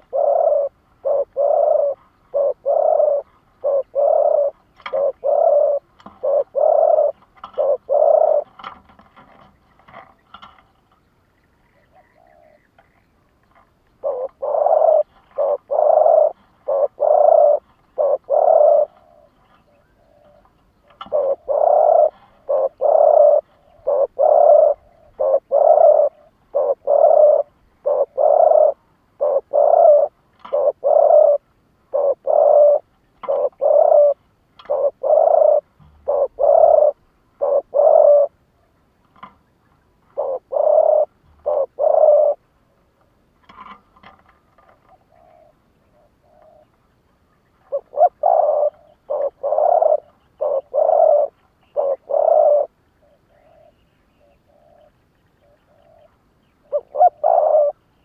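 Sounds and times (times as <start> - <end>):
dove cooing: 0.0 - 10.6, 11.8 - 12.7, 13.5 - 39.3, 40.1 - 42.5, 44.6 - 46.8, 47.6 - 58.0.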